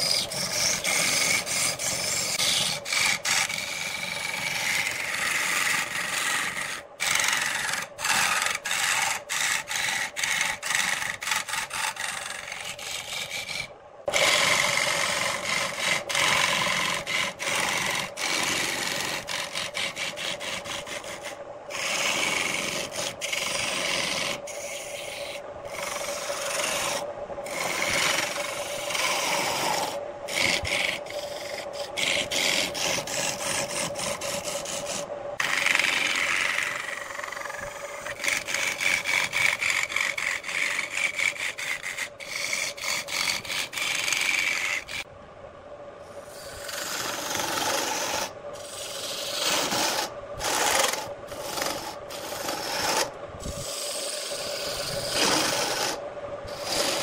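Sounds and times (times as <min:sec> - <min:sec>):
lathe tool scraping wood: 0:00.0 - 0:45.1, 0:46.2 - 0:57.0.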